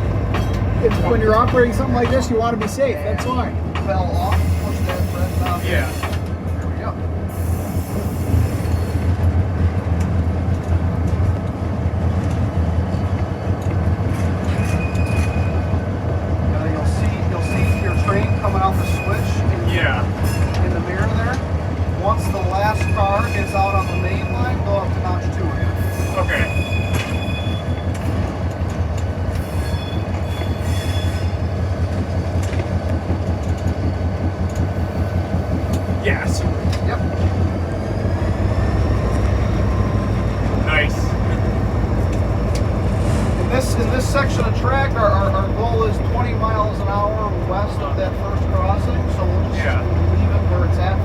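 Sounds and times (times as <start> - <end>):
diesel locomotive engine rumble: 0.0 - 51.0.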